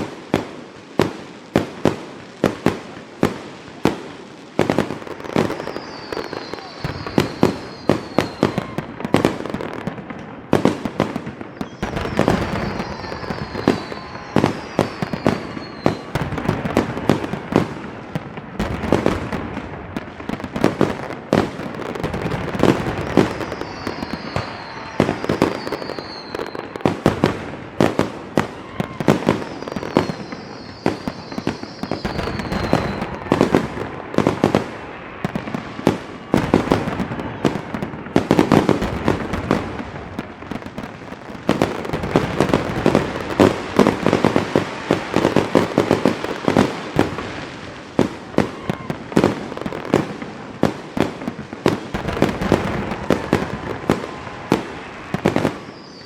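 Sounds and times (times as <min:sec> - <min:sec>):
fireworks bangs and booms: 0:00.0 - 0:56.0
falling firework whistles: 0:04.6 - 0:56.0.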